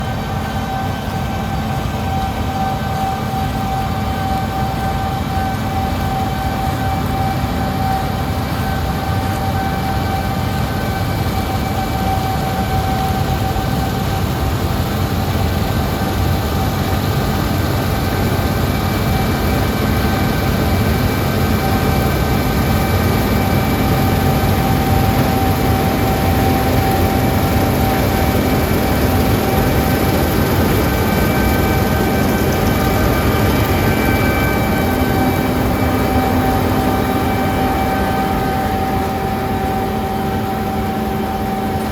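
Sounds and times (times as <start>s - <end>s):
steady high whine: 0.0s - 41.9s.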